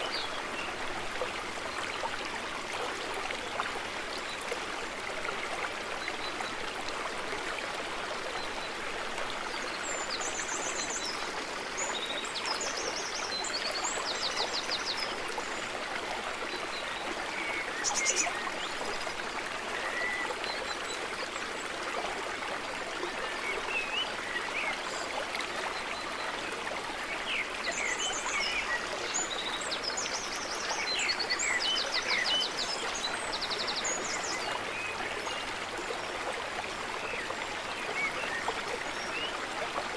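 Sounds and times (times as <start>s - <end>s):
forest stream running: 0.0s - 39.9s.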